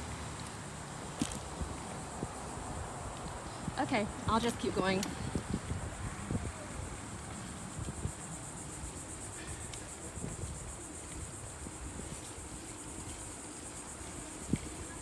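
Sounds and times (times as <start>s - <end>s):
bicycle tyres on pavement: 0.0s - 15.0s
insect chorus: 0.0s - 15.0s
wind rumble: 0.0s - 15.0s.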